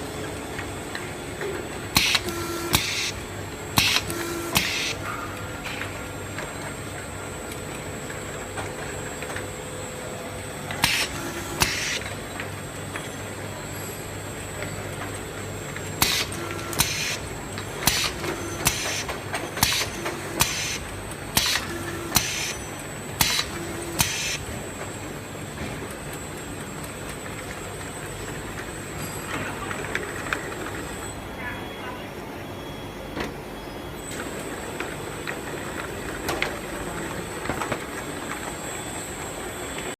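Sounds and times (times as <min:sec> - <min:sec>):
filling machine humming with whine: 0:00.0 - 0:39.9.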